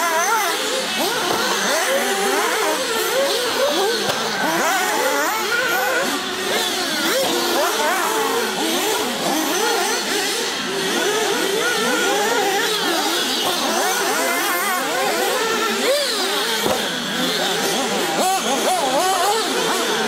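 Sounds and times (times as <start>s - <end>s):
rc car engines revving: 0.0s - 20.0s.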